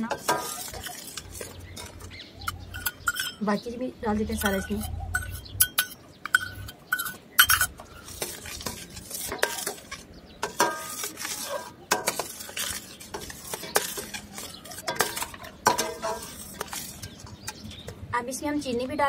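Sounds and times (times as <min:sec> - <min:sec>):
spatula scraping metal pan: 0:00.0 - 0:03.5, 0:04.3 - 0:18.0.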